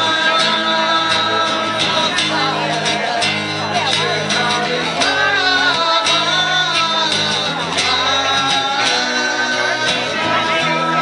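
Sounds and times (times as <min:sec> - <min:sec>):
guitar: 0:00.0 - 0:11.0
person singing long notes: 0:00.0 - 0:11.0.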